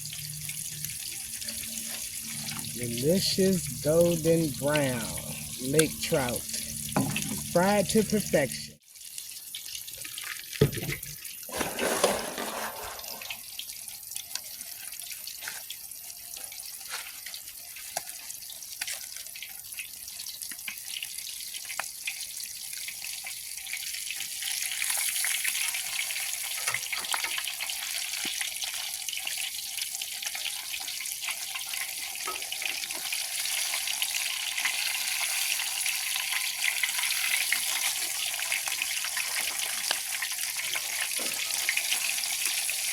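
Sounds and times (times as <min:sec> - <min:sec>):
fish sizzling in hot oil: 0:00.0 - 0:42.9.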